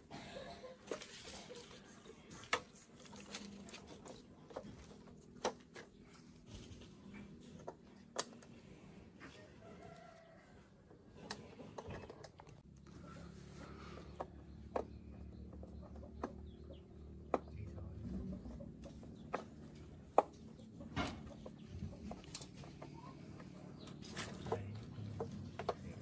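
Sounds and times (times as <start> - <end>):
chickens clucking: 0.0 - 6.2, 9.2 - 26.0.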